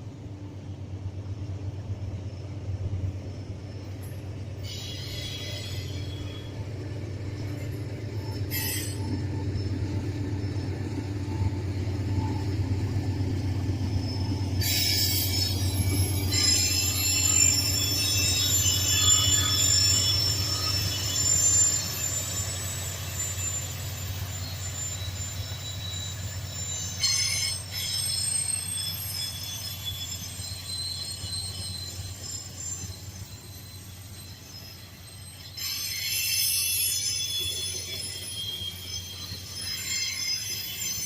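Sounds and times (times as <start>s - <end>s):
train rumble: 0.0s - 41.0s
train wheel squeal: 0.0s - 41.0s.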